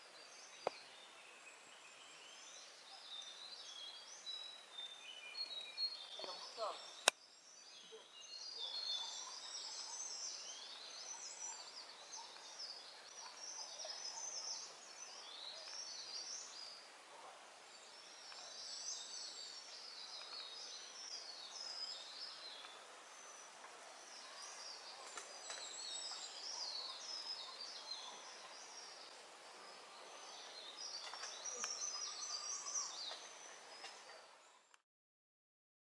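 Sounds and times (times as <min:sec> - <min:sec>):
birds chirping and trilling: 0:00.0 - 0:34.8.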